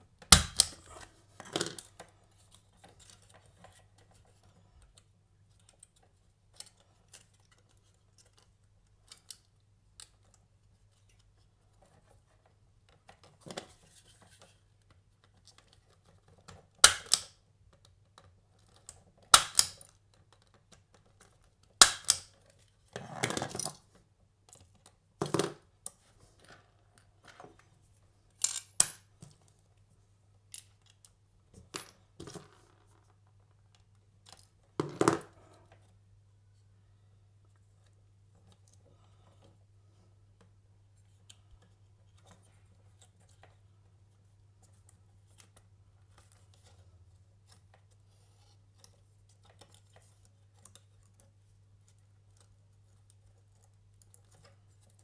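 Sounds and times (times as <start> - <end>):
wires clicking and rustling: 0.0 - 36.2, 37.4 - 55.0.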